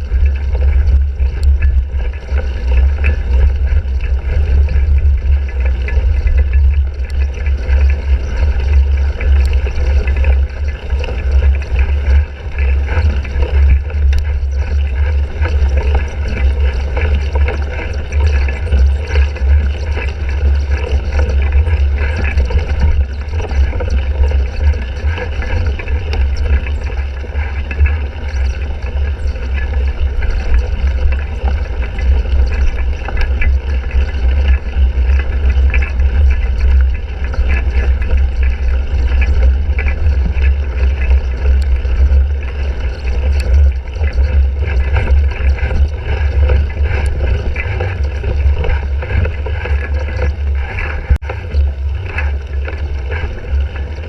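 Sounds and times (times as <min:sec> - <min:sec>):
bike vibration rumble: 0:00.0 - 0:54.0.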